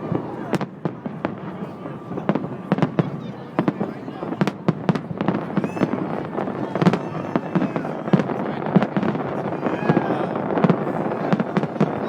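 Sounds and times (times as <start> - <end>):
fireworks bangs: 0.0 - 12.0
heavy fireworks booms: 0.0 - 12.0.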